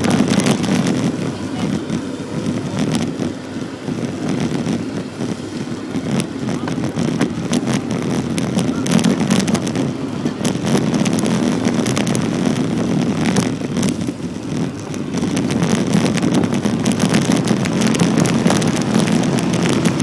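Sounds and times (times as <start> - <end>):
coach engine running: 0.0 - 20.0
short crackles: 0.0 - 20.0
wind on microphone: 0.0 - 20.0.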